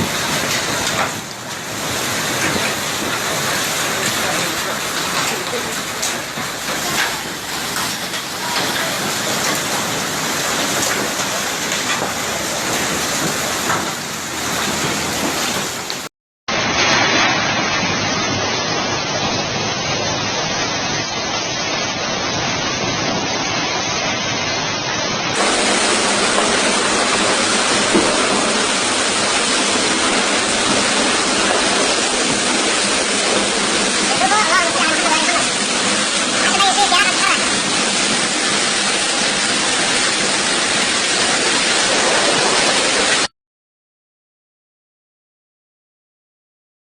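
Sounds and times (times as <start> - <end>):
hail and rain pelting down: 0.0 - 43.3.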